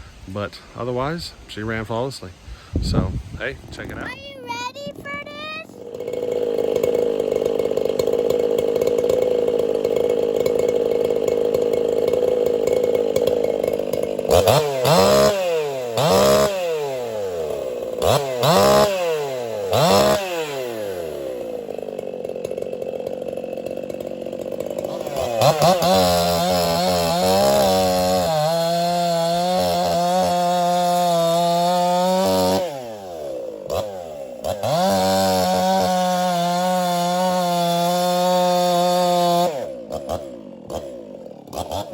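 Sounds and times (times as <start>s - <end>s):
chainsaw revving and idling: 3.4s - 41.9s.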